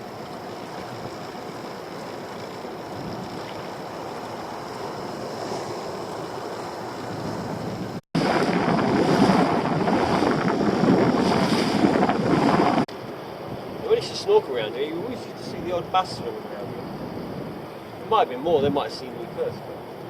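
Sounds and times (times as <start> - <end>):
sea surf washing: 0.0 - 20.0
wind buffeting microphone: 0.0 - 20.0.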